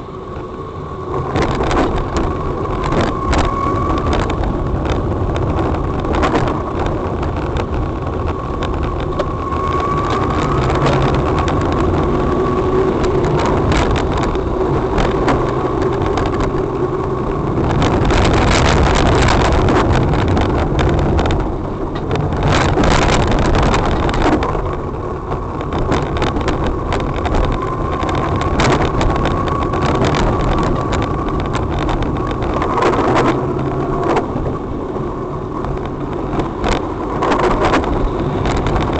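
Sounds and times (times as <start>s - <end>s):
engine and tyre rumble: 0.0s - 38.9s.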